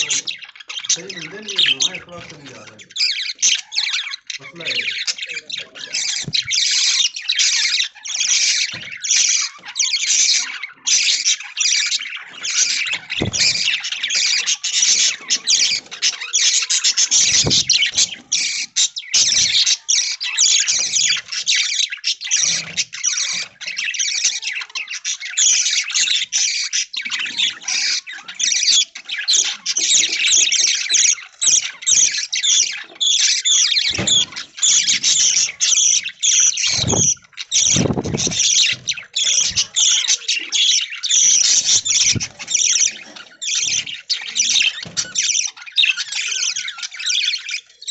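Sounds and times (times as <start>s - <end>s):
budgies chattering and chirping: 0.0s - 47.9s.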